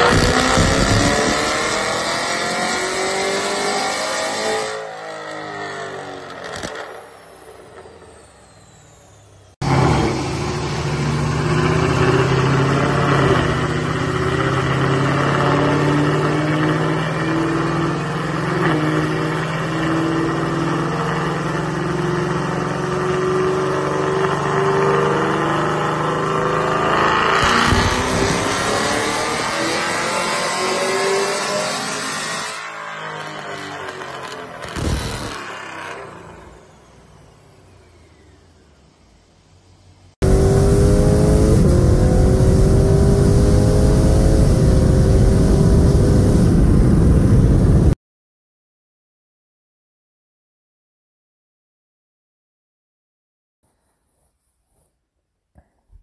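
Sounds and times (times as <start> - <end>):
car engine on a dyno: 0.0 - 48.0.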